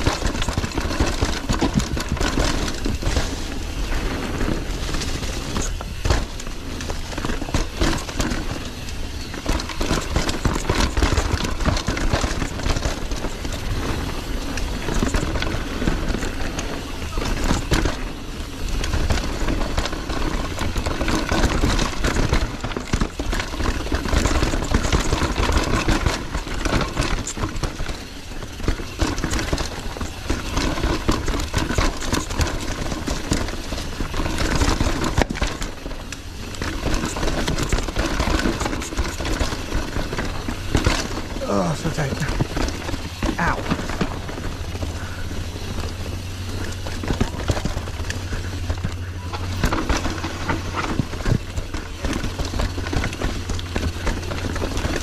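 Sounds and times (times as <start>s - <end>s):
bike rattling and knocking: 0.0s - 55.0s
tyre roar on dirt: 0.0s - 55.0s.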